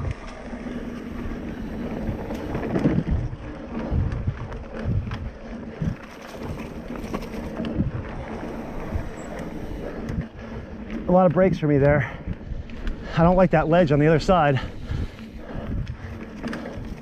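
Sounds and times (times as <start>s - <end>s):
bike rattling: 0.0s - 17.0s
bike rolling on dirt trail: 0.0s - 17.0s
wind buffeting microphone: 0.0s - 17.0s.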